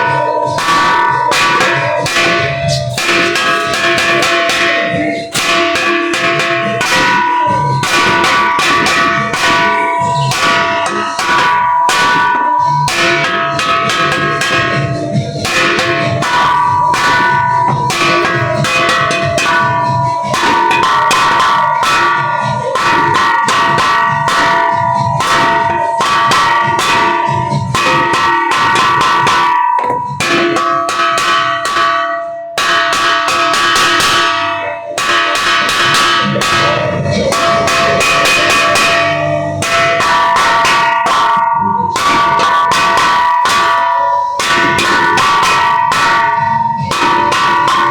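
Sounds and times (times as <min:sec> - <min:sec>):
bells ringing in a peal: 0:00.0 - 0:47.9.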